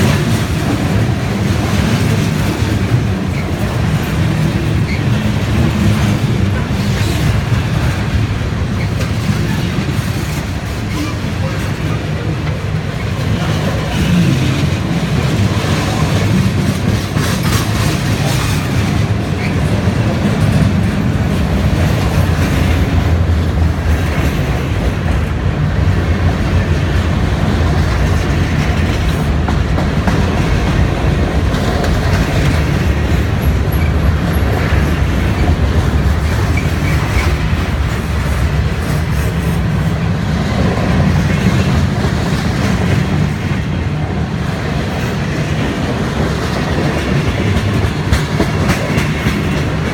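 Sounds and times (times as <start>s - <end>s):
freight train rumbling on bridge: 0.0s - 49.9s
wheels clattering on rail joints: 0.0s - 49.9s.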